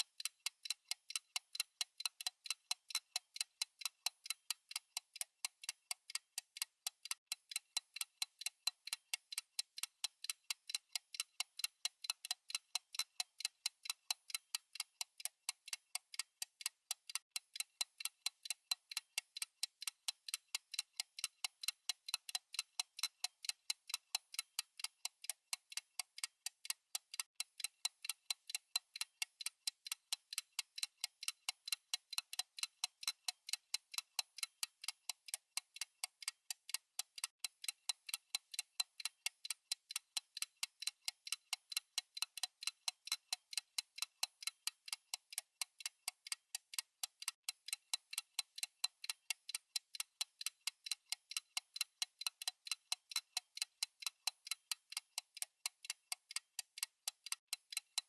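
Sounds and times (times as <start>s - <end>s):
fast clock ticking: 0.0s - 58.0s.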